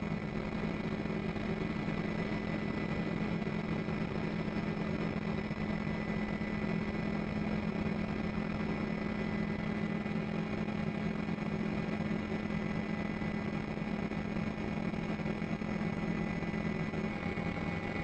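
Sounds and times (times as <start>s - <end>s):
helicopter engine drone: 0.0s - 18.0s.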